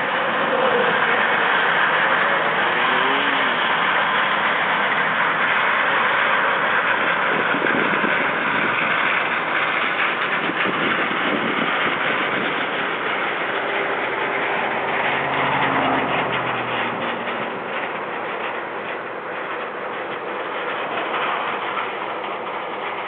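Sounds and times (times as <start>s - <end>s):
farm machinery engine running: 0.0s - 23.0s.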